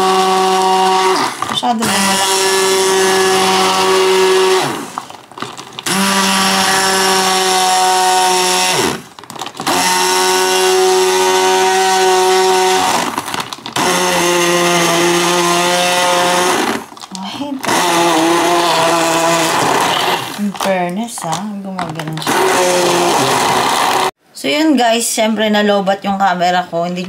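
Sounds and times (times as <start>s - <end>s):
hand blender running: 0.0s - 20.7s, 22.2s - 24.2s.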